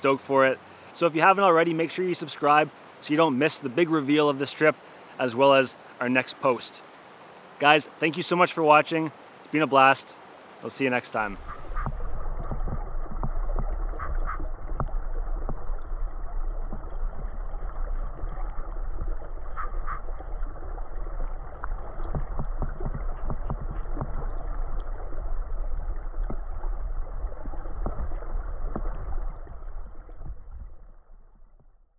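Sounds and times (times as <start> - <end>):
muffled river current rushing: 0.0 - 31.7.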